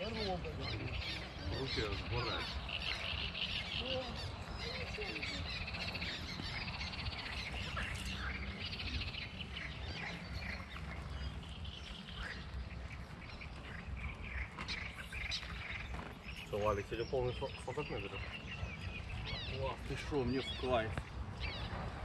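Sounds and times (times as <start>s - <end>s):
birds chirping and singing: 0.0s - 22.0s.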